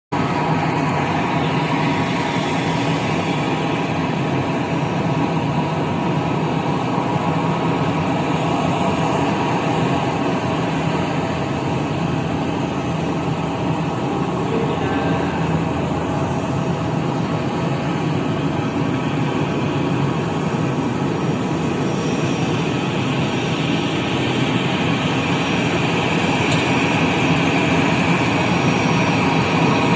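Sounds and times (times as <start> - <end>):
jet engines running: 0.1 - 29.9.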